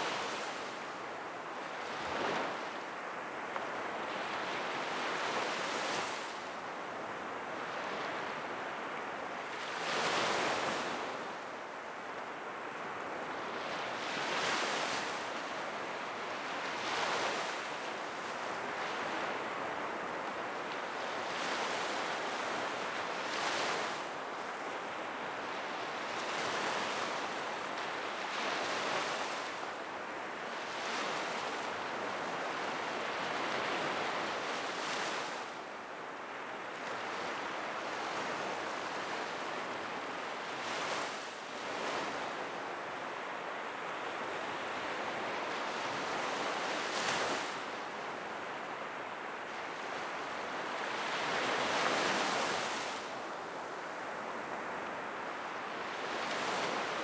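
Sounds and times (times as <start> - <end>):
waves breaking on beach: 0.0 - 57.0.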